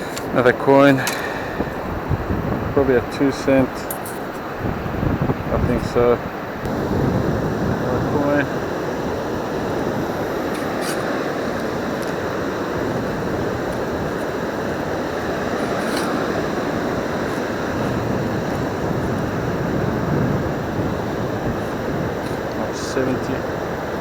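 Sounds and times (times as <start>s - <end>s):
surf rushing: 0.0s - 24.0s
wind blowing on microphone: 0.0s - 24.0s.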